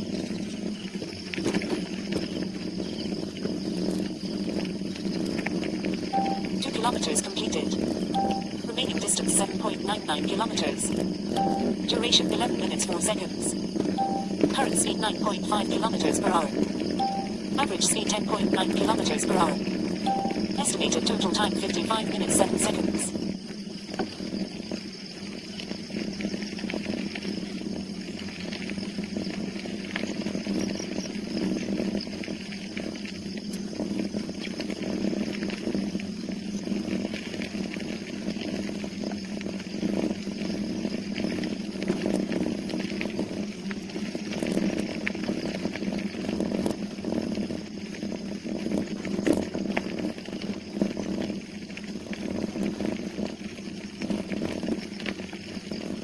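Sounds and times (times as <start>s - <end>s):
bicycle riding buzz: 0.0s - 8.8s, 10.3s - 12.7s, 13.3s - 17.6s, 18.2s - 20.6s, 22.7s - 56.0s.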